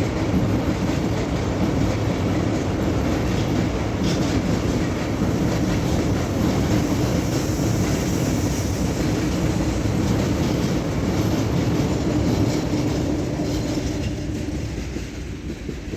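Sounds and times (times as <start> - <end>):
train wheels clattering on rail: 0.0 - 15.9.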